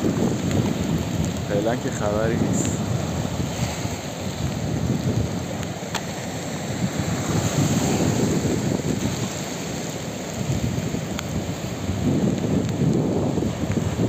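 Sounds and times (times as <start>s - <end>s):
rain: 0.0s - 14.0s
surf breaking: 0.0s - 14.0s
wind buffeting microphone: 0.0s - 14.0s.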